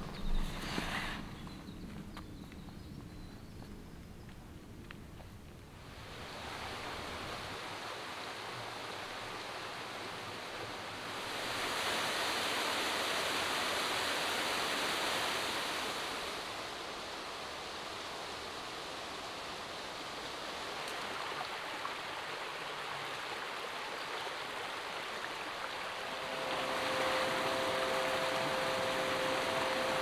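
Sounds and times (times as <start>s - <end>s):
rushing water: 5.8s - 30.0s.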